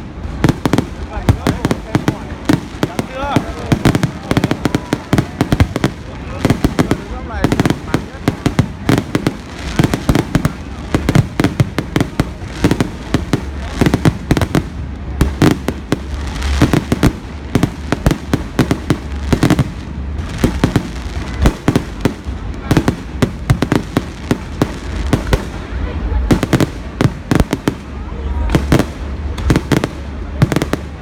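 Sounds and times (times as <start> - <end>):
firework bursts: 0.0 - 31.0
fireworks crackle: 0.0 - 31.0
low rumble: 0.0 - 31.0.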